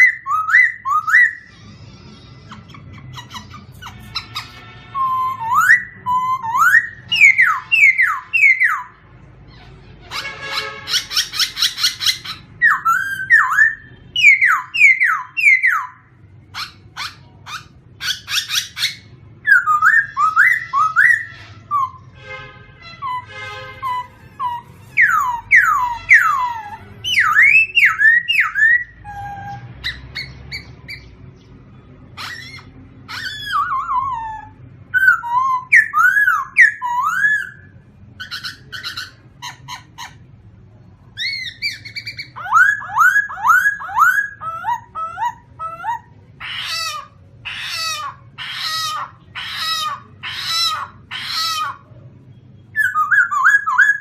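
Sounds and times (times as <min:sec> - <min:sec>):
songbird singing whistled phrases: 0:00.0 - 0:01.6, 0:02.4 - 0:08.9, 0:10.9 - 0:22.1, 0:23.0 - 0:31.6, 0:32.2 - 0:40.1, 0:41.2 - 0:51.8, 0:52.6 - 0:54.0.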